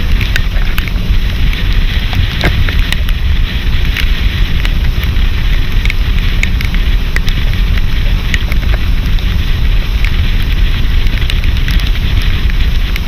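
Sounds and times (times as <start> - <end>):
small crackling clicks: 0.0 - 13.0
wind buffeting microphone: 0.0 - 13.0.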